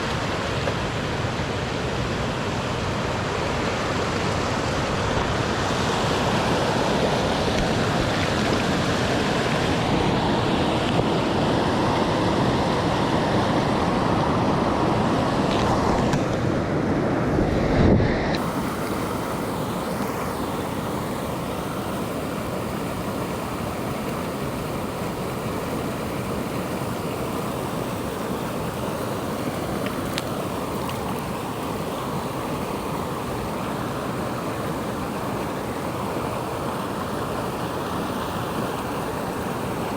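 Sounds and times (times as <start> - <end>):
flowing river water: 0.0 - 17.7, 18.3 - 39.9.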